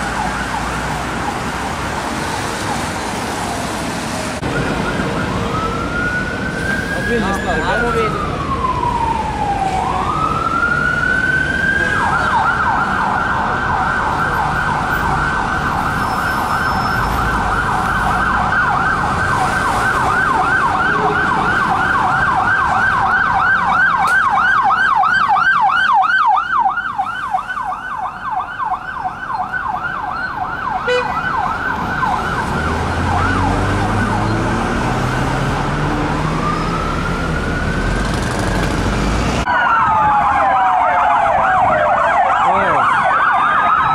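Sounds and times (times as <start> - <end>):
police siren wailing and yelping: 0.0 - 38.8, 39.4 - 43.9
traffic engine noise: 0.0 - 43.9.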